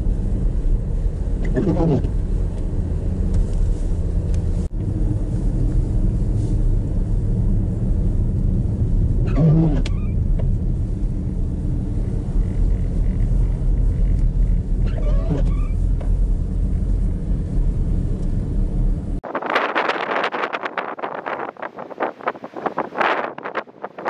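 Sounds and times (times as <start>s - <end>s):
car driving rumble: 0.0s - 24.0s.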